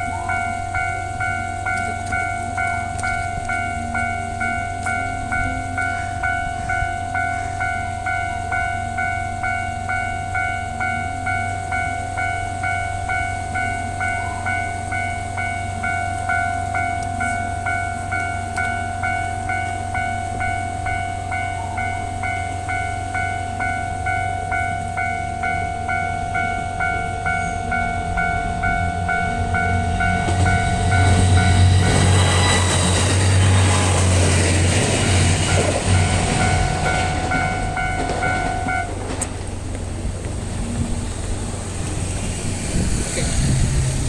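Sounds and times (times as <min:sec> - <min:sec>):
electronic warning bell dinging: 0:00.0 - 0:39.0.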